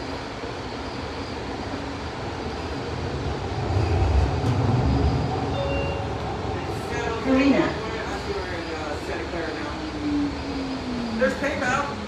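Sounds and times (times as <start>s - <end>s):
light rail train rumble: 0.0s - 12.0s.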